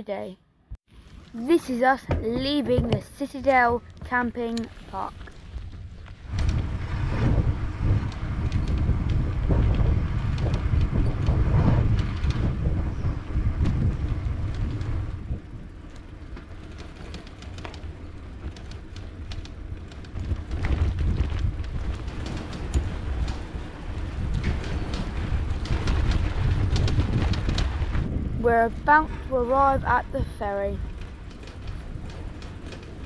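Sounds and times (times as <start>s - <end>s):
bicycle rattling: 0.9s - 33.0s
bicycle tyre noise: 0.9s - 33.0s
wind rumbling on microphone: 0.9s - 33.0s.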